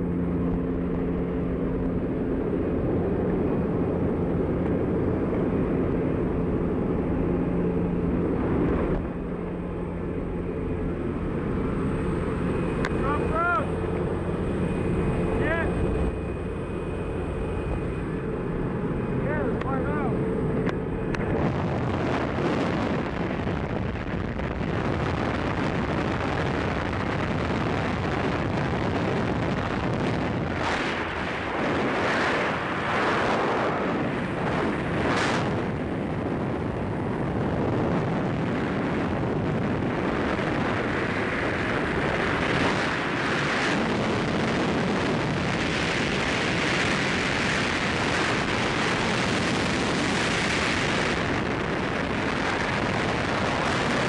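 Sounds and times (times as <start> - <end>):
freefall wind rushing: 0.0 - 54.0.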